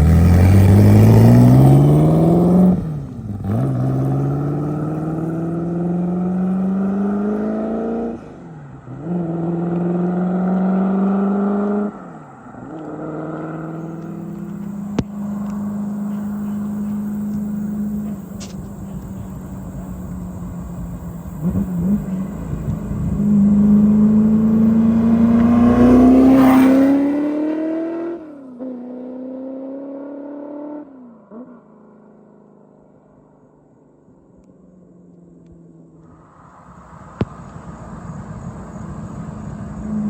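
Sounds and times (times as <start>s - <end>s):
car engine accelerating: 0.0s - 33.6s, 34.4s - 40.0s.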